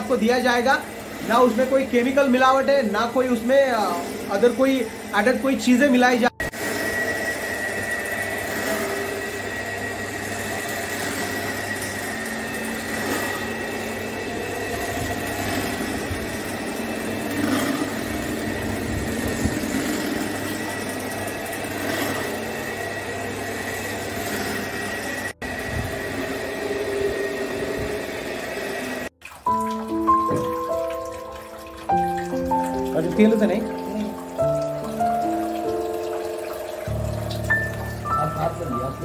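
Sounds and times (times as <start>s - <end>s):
oil press grinding: 0.0s - 39.0s
motor low hum: 0.9s - 39.0s.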